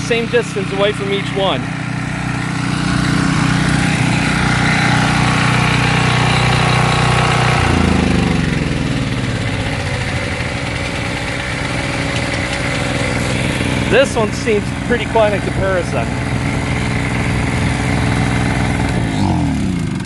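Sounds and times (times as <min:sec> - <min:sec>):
generator engine drone: 0:00.0 - 0:20.0.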